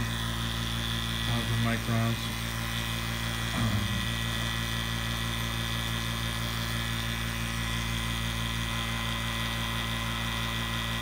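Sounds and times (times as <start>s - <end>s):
vacuum pump humming: 0.0s - 11.0s.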